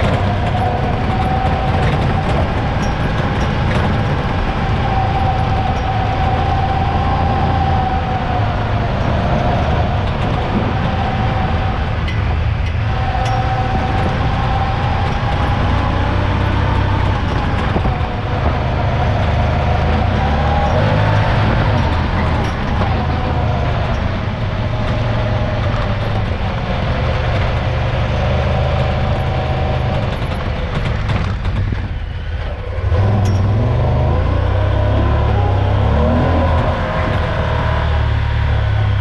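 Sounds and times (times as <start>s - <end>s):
vehicle engine running under throttle: 0.0s - 39.0s.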